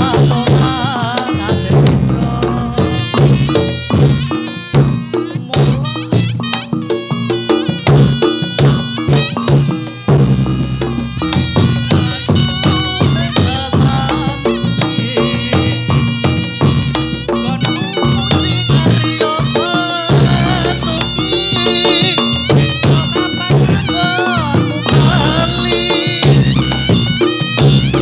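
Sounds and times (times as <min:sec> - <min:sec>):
drums and gong-chime percussion: 0:00.0 - 0:28.0
wavering high melody: 0:00.0 - 0:28.0.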